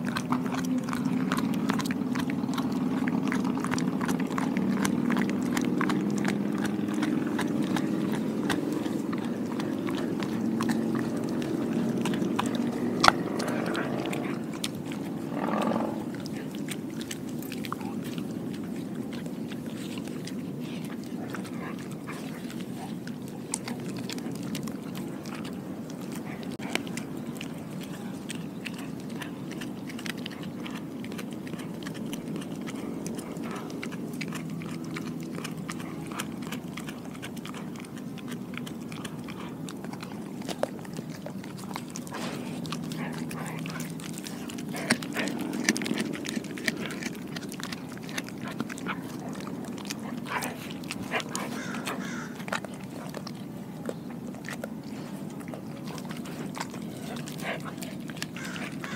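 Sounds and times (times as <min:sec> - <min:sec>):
dog chewing and gnawing: 0:00.0 - 0:58.9
teeth clicking: 0:00.0 - 0:58.9.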